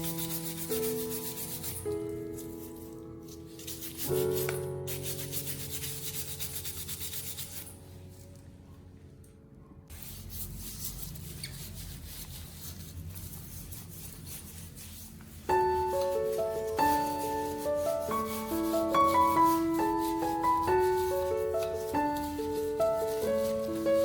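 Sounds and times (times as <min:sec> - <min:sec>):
scrubbing on a hard surface: 0:00.0 - 0:07.8, 0:09.9 - 0:24.0.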